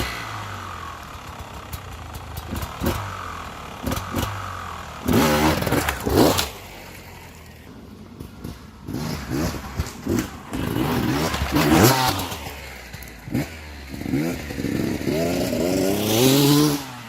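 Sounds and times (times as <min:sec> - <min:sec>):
dirt bike engine revving: 0:00.0 - 0:07.6, 0:08.2 - 0:17.0.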